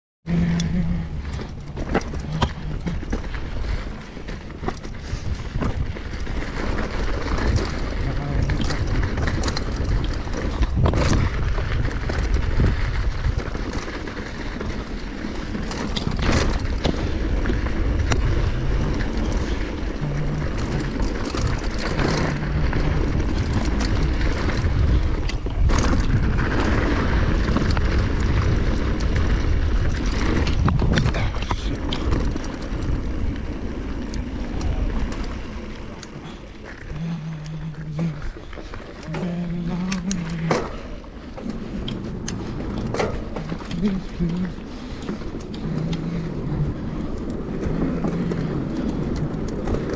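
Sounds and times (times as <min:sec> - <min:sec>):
bike knocks and rattles: 0:00.3 - 0:49.9
tyres rumbling over gravel: 0:00.3 - 0:49.9
wind buffeting microphone: 0:00.3 - 0:49.9.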